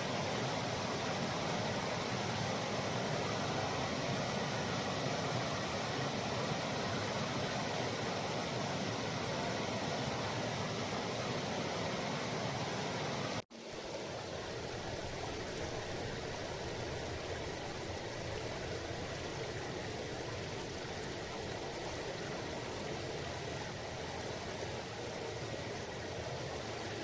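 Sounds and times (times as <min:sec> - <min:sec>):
river babbling over rocks: 0:00.0 - 0:27.0.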